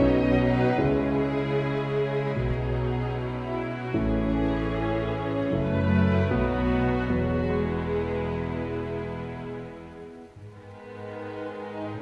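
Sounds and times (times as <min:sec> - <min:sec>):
slow sustained chords music: 0:00.0 - 0:12.0.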